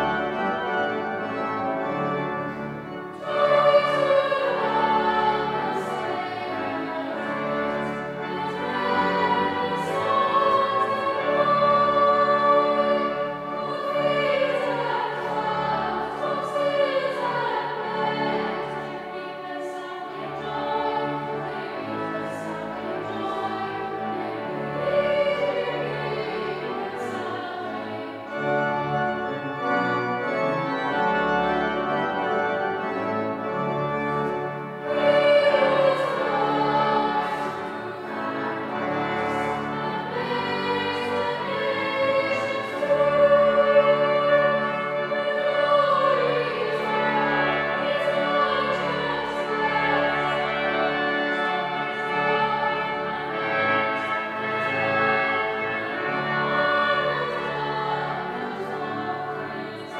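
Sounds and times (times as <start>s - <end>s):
low organ notes: 0.0s - 19.2s, 20.2s - 59.8s
children's choir singing: 0.0s - 59.9s.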